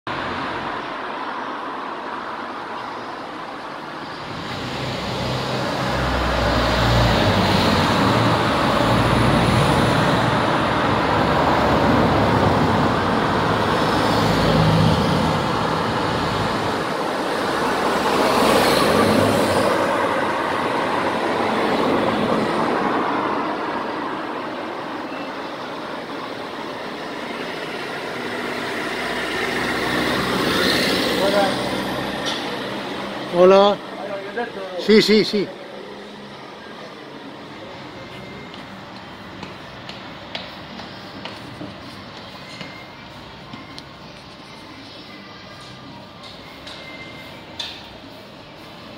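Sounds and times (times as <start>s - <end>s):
road traffic rumble and hiss: 0.1s - 48.9s.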